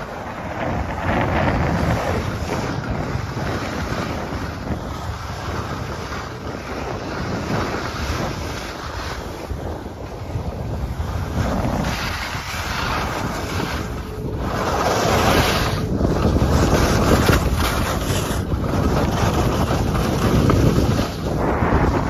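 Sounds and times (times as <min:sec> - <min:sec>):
skis hissing and scraping on snow: 0:00.0 - 0:22.0
wind buffeting microphone: 0:00.0 - 0:22.0.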